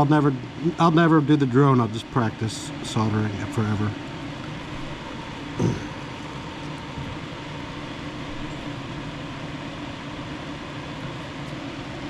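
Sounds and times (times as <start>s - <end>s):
fan whirring: 0.0s - 12.0s.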